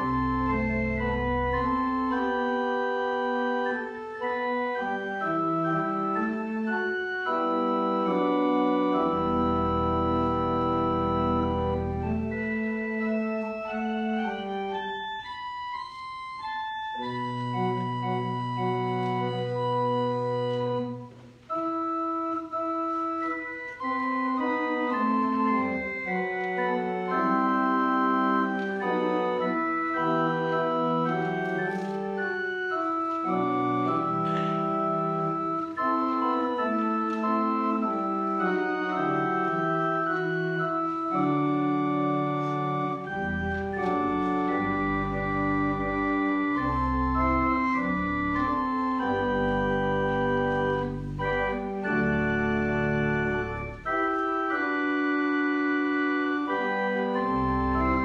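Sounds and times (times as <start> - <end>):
organ playing slow chords: 0.0 - 58.0.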